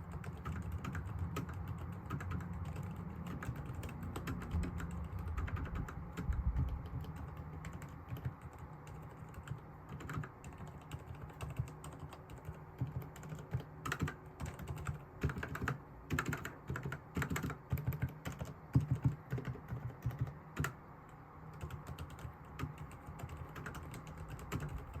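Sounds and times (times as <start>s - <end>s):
keyboard keystrokes clacking: 0.0s - 25.0s.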